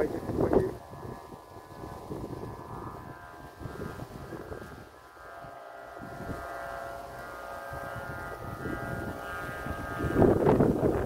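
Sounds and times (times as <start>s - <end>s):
kite flutes droning: 0.0s - 11.0s
wind buffeting microphone: 0.0s - 11.0s.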